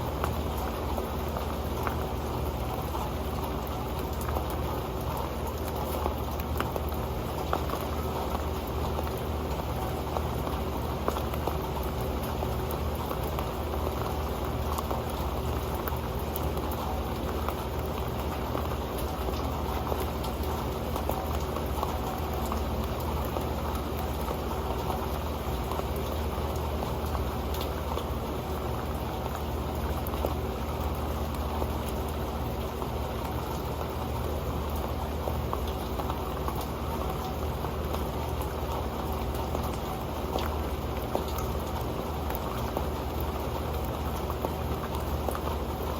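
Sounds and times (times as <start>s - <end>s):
rain pattering on a pan: 0.0s - 45.9s.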